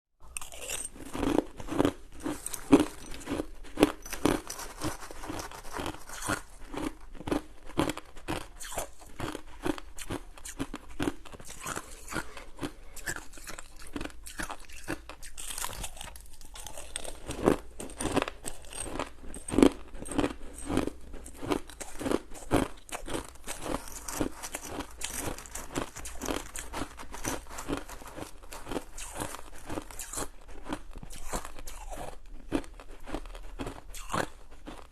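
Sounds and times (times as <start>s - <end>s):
person chewing ice: 0.2s - 34.9s.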